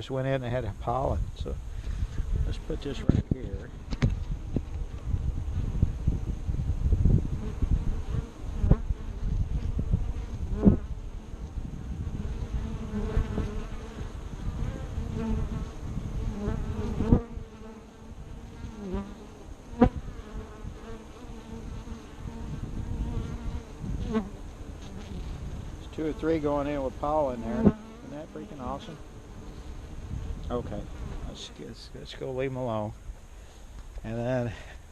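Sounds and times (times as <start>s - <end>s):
honeybees buzzing: 0.6s - 33.7s.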